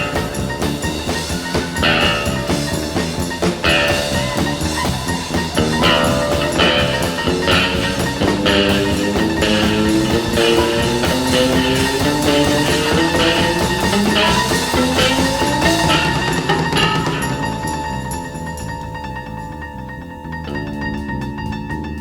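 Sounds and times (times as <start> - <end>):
music with steady drum beat: 0.0 - 19.6.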